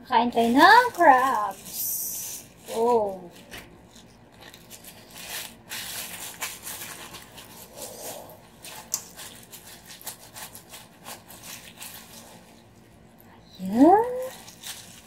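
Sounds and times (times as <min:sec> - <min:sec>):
plastic gloves crinkling: 0:00.0 - 0:15.0.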